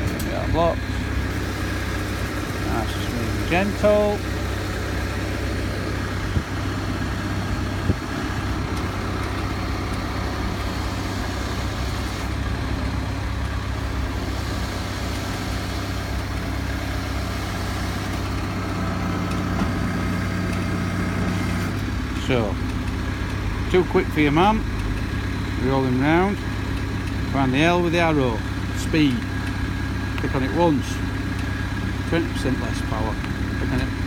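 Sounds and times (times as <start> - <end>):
lorry engine running: 0.0 - 34.0.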